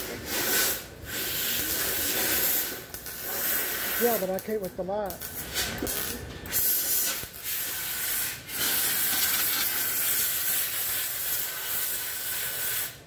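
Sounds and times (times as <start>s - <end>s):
compressed air hissing: 0.0s - 4.4s, 6.5s - 13.0s.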